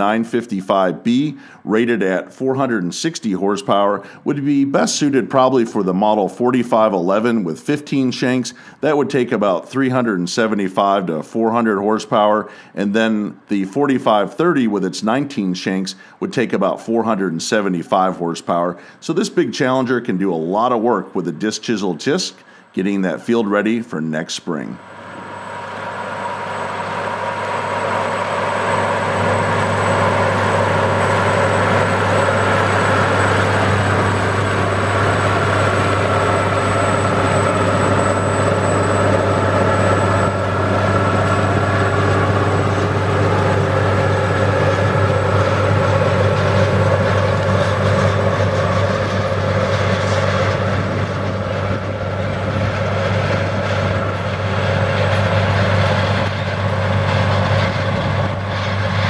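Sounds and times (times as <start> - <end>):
tractor diesel engine under load: 0.0 - 23.9, 24.6 - 59.0.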